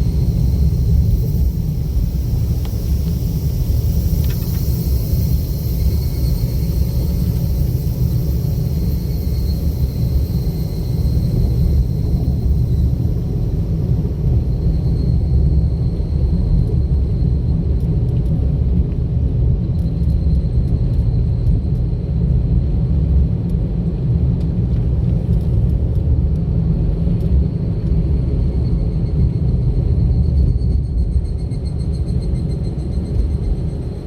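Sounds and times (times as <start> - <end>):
car driving road rumble: 0.0 - 28.7.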